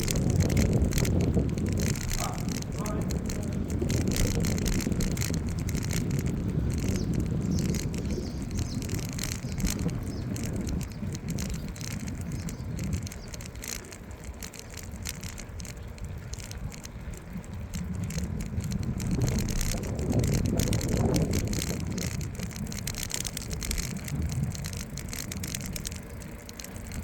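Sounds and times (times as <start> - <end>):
bicycle clicks and rattles: 0.0 - 27.0
wind rumbling on microphone: 0.0 - 27.0.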